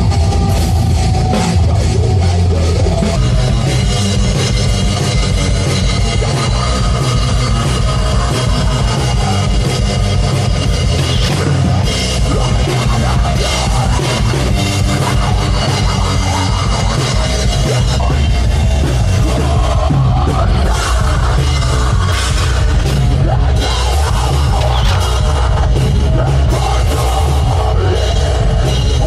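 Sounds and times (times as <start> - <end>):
heavy metal music with drums: 0.0 - 29.0.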